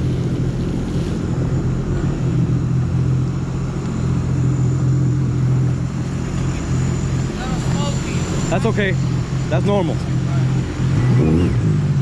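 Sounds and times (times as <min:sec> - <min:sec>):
jet ski engine idling: 0:00.0 - 0:12.0.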